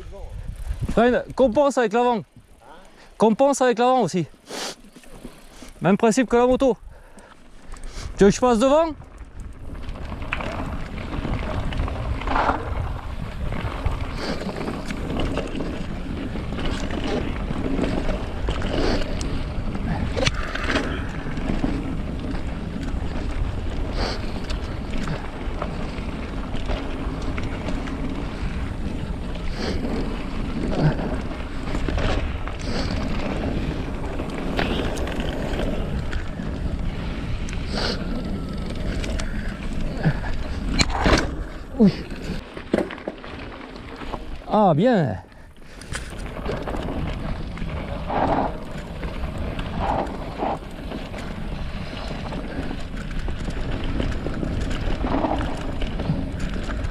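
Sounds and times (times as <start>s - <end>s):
wind buffeting the microphone: 0.0s - 2.7s, 5.2s - 42.4s, 45.1s - 56.9s
tyres rumbling on dirt: 7.8s - 56.9s.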